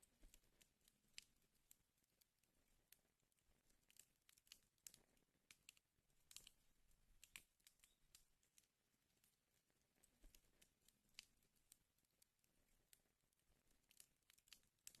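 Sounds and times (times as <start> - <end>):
faint wood fire crackling: 0.0 - 15.0.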